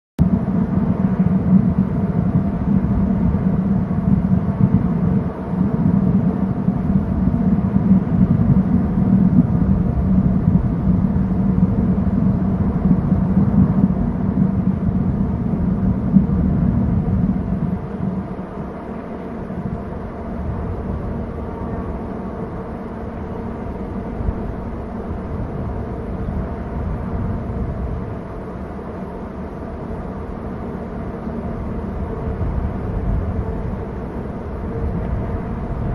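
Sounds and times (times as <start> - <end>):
faint hum: 0.2 - 35.9
low rumble: 0.2 - 35.9.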